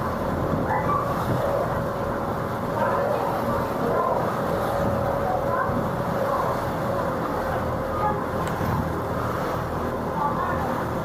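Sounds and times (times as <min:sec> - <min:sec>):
boat engine running: 0:00.0 - 0:11.0
faint voices: 0:00.4 - 0:11.0.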